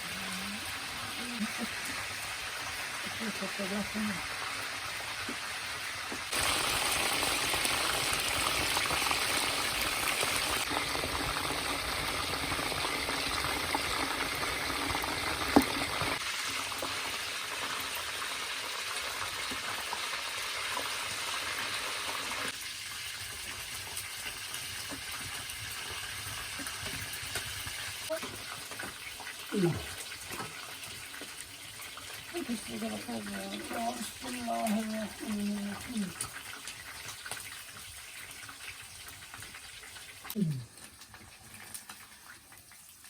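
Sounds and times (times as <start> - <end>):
food sizzling in hot fat: 0.0 - 43.0.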